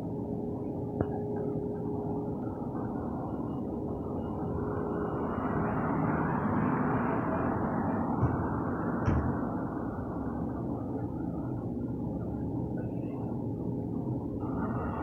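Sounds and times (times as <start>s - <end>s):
faint steady hum: 0.0s - 15.0s
steady low rumble: 0.0s - 15.0s.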